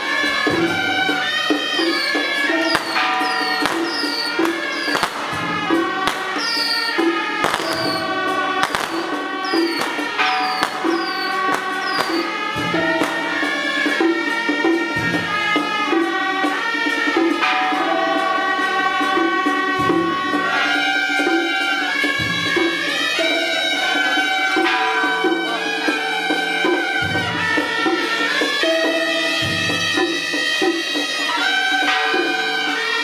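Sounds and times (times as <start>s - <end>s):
light metallic percussion: 0.0s - 33.0s
side-blown flutes melody: 0.0s - 33.0s
steady drum beat: 0.0s - 33.0s.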